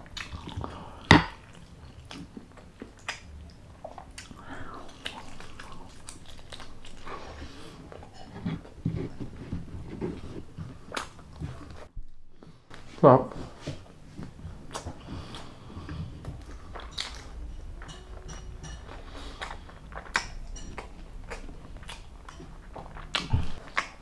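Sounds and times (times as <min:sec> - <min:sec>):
wet chewing and mouth clicks: 0:00.0 - 0:12.9, 0:13.7 - 0:24.0.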